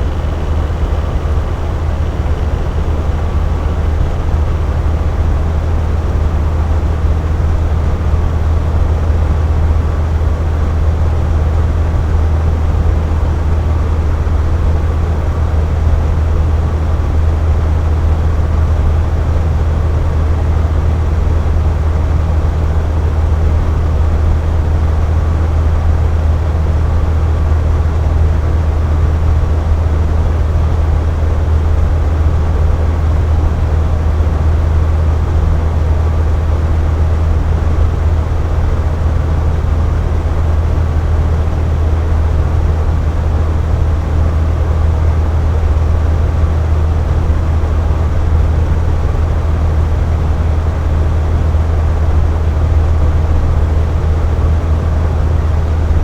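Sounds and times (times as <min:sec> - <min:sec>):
box fan running: 0:00.0 - 0:56.0.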